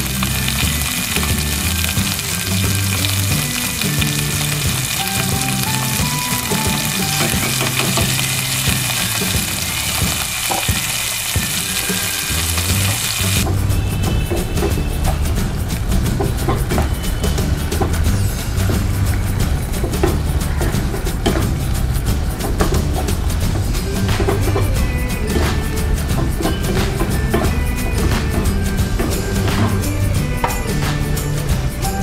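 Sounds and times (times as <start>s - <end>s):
light background music: 0.0s - 32.0s
tomatoes and oil sizzling: 0.0s - 32.0s.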